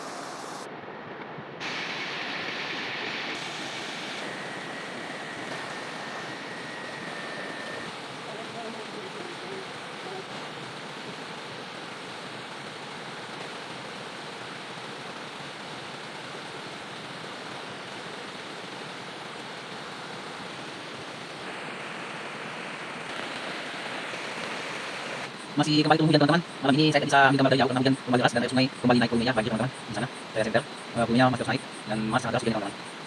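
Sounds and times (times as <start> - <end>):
heavy rain: 0.0 - 1.0, 1.6 - 33.0.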